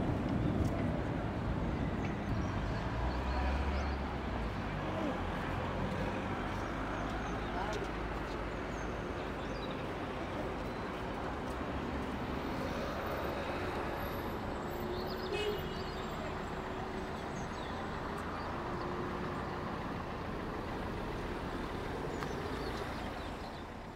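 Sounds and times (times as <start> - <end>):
traffic rush: 0.0 - 23.9.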